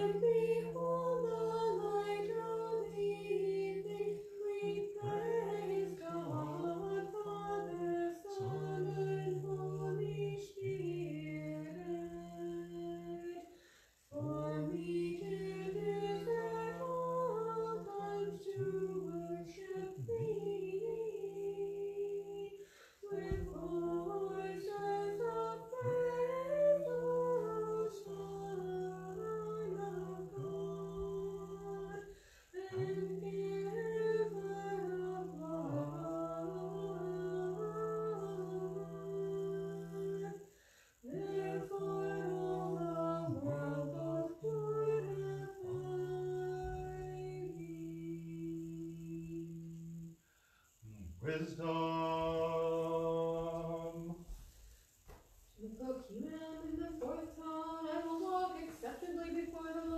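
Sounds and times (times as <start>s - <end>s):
unaccompanied liturgical chant: 0.0s - 59.9s.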